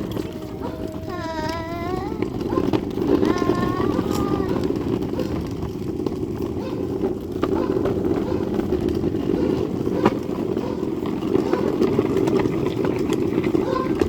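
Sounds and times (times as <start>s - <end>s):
moving vehicle rumble: 0.0s - 14.0s.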